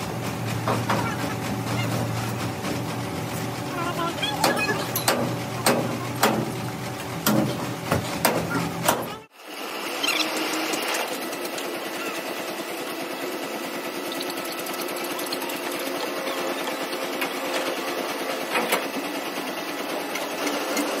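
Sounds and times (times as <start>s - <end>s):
truck engine and hydraulic rattle: 0.0s - 21.0s.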